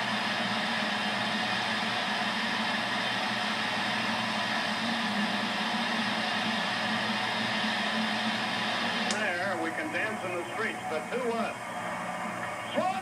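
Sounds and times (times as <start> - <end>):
stadium crowd cheering: 0.0 - 13.0.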